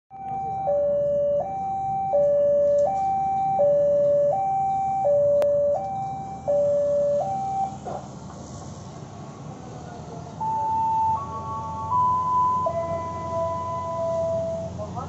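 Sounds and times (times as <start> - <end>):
level crossing two-tone alarm: 0.1 - 7.8, 10.4 - 14.8.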